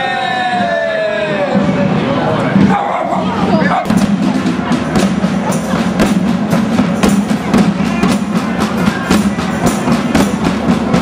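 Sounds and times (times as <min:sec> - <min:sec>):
street band music: 0:00.0 - 0:11.0
rapid drum strokes: 0:01.6 - 0:11.0.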